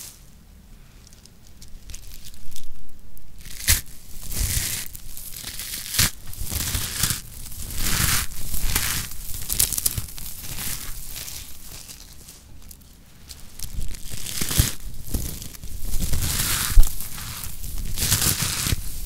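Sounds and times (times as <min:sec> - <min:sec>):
soap curls crackling when crushed: 0:00.9 - 0:19.0.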